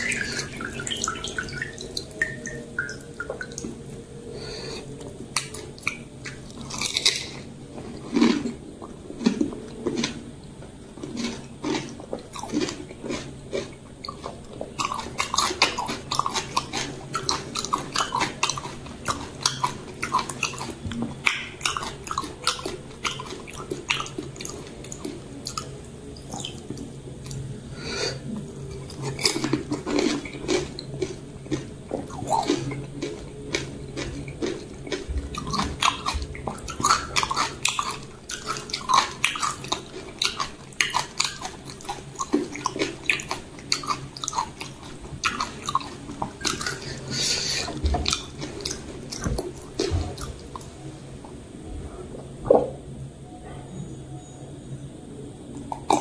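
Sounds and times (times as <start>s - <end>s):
wet chewing: 0.0s - 4.0s, 4.8s - 10.3s, 11.0s - 27.4s, 28.0s - 50.7s.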